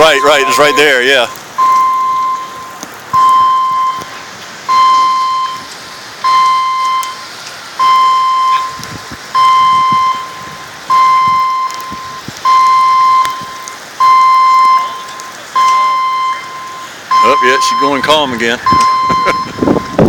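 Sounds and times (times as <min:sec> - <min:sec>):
electronic alert beeping: 0:00.0 - 0:04.1, 0:04.7 - 0:07.2, 0:09.4 - 0:20.0
rain hissing: 0:00.0 - 0:20.0.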